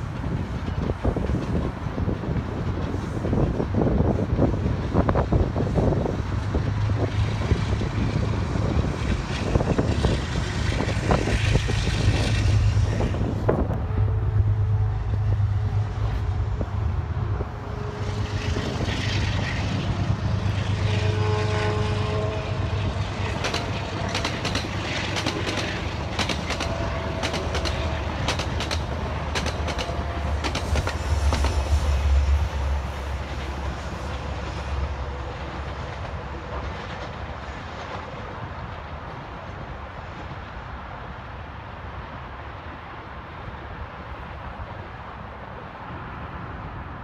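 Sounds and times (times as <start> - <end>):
diesel train engine drone: 0.0 - 47.0.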